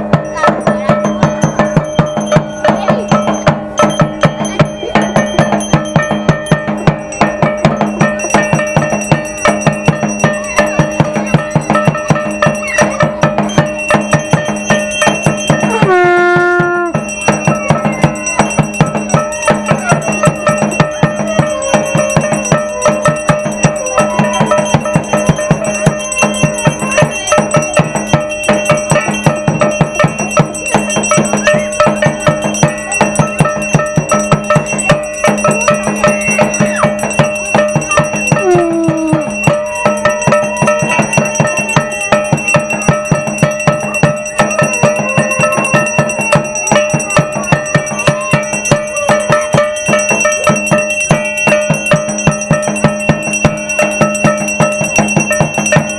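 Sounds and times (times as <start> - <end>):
bell tones ringing: 0.0 - 55.9
bells and metal percussion clanging: 0.0 - 55.9.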